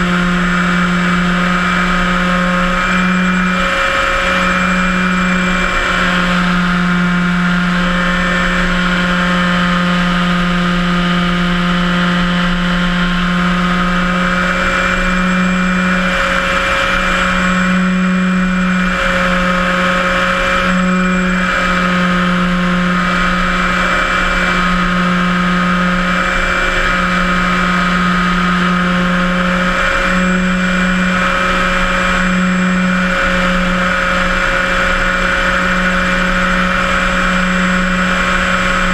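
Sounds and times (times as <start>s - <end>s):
model plane propeller drone: 0.0s - 38.9s.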